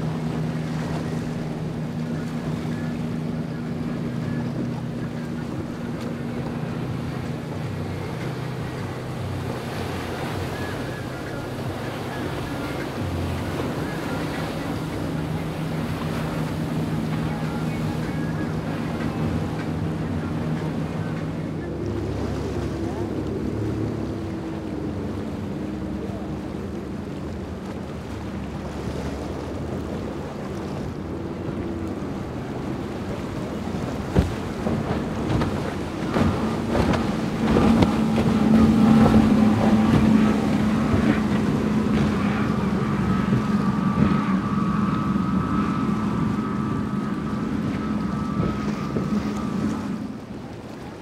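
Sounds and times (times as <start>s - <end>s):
motorboat engines droning: 0.0s - 51.0s
wind buffeting microphone: 0.0s - 51.0s.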